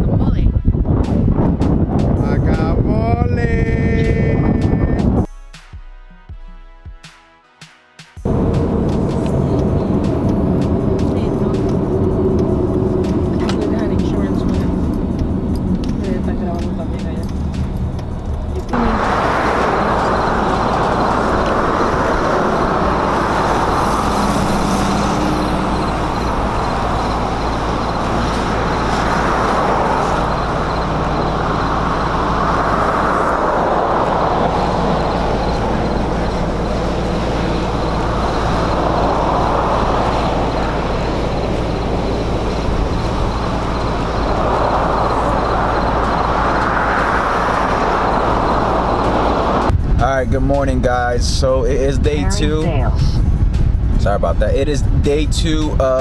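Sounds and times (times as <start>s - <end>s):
cars passing: 8.2s - 56.0s.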